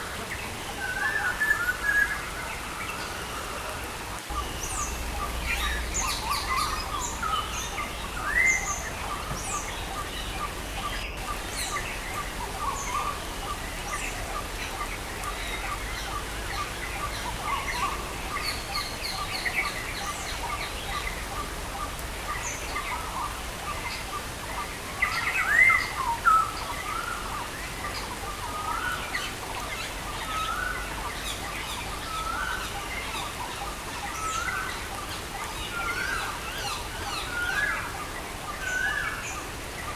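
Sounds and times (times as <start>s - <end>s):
rain hissing: 0.0s - 39.9s
songbirds chirping: 0.0s - 39.9s.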